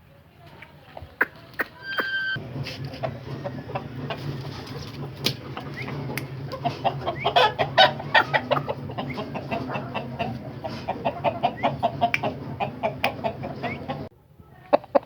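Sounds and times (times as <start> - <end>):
chickens clucking: 0.4 - 15.0
steady low hum: 1.5 - 14.1.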